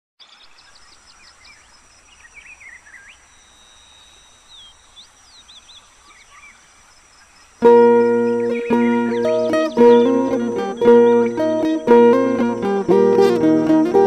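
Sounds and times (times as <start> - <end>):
birds calling: 0.2 - 14.0
faint background hiss: 0.2 - 14.0.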